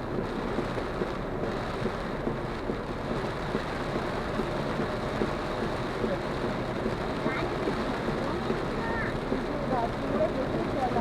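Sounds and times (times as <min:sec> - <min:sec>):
heavy rain on a car: 0:00.0 - 0:11.0.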